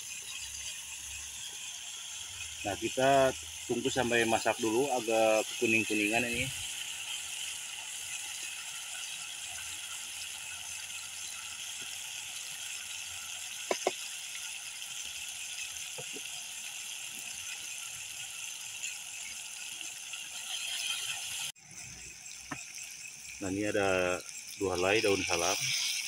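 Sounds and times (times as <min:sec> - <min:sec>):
paste sizzling in hot oil: 0:00.0 - 0:26.0.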